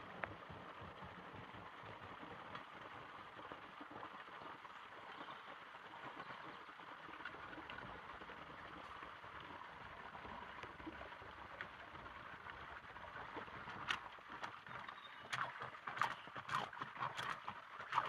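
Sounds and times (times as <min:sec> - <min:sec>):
rainwater pouring into drain: 0:00.0 - 0:18.0.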